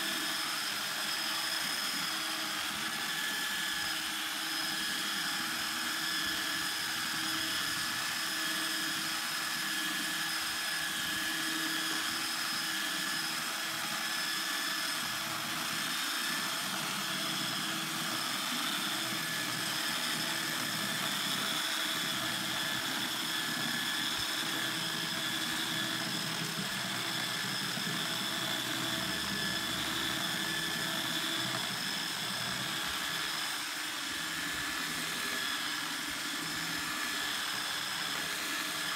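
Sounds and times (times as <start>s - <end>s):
power sander on wood: 0.0s - 38.9s.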